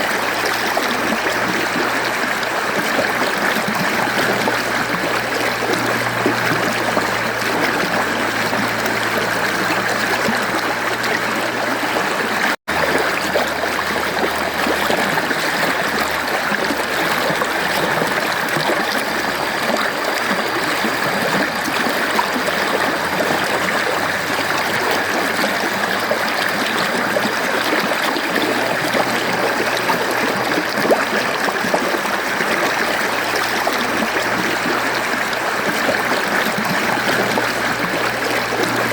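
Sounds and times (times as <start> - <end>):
stream rushing and trickling: 0.0 - 38.9.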